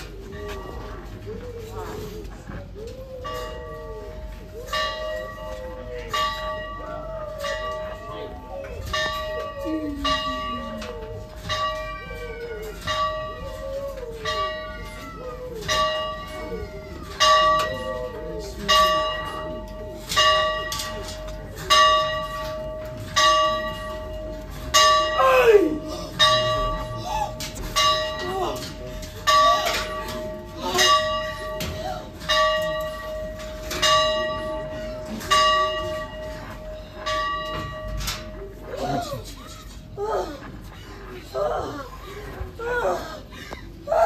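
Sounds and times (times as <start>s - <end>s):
church bell tolling: 0.0s - 2.1s, 3.1s - 40.7s.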